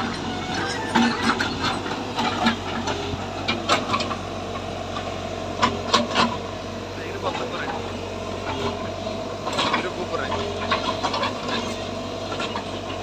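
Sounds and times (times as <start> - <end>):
heavy construction machine engine: 0.0 - 13.0.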